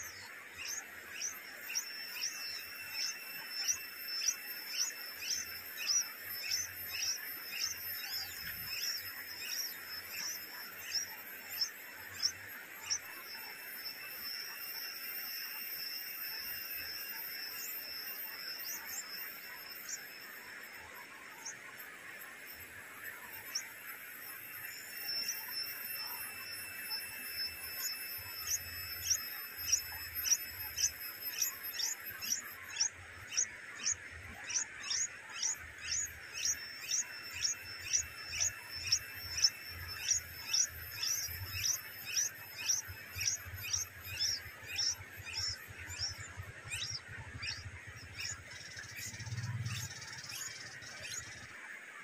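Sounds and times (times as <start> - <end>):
bird chirping: 0.0 - 51.6.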